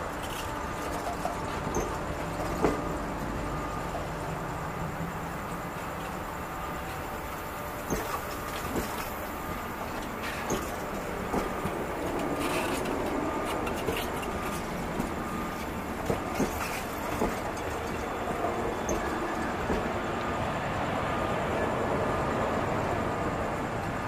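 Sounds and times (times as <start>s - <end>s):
wheels clacking over rail joints: 0.0s - 20.4s
train carriages rumbling: 0.0s - 24.0s.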